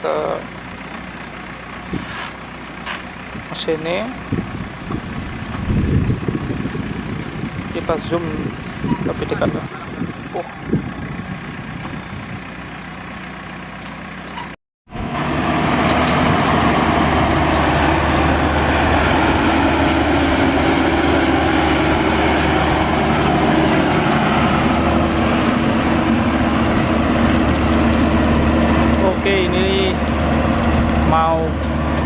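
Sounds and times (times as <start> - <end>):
combine harvester engine running: 0.0 - 32.0.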